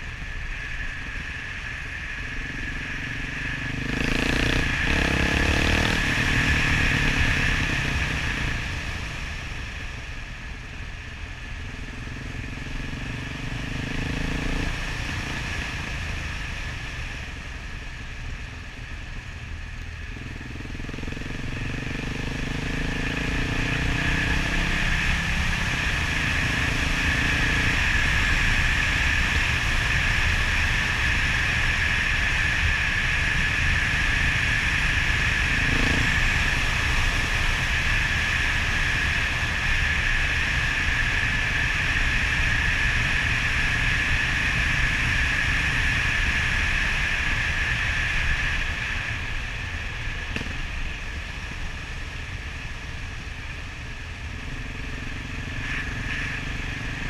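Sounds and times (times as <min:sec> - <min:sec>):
wind and road noise: 0:00.0 - 0:57.0
motorcycle engine revving: 0:01.7 - 0:10.5, 0:11.4 - 0:17.5, 0:19.7 - 0:57.0.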